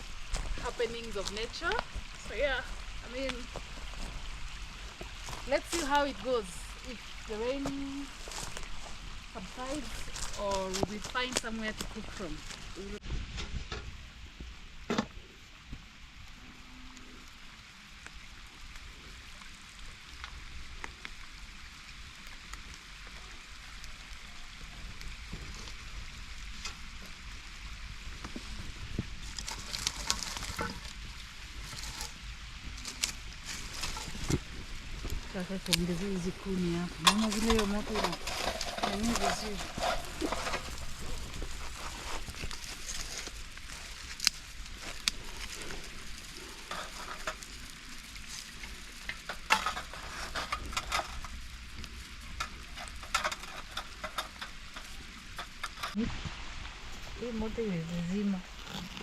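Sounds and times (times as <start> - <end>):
sharp crackles and clicks: 0.0 - 13.9, 15.7 - 59.0
rain falling: 0.0 - 59.0.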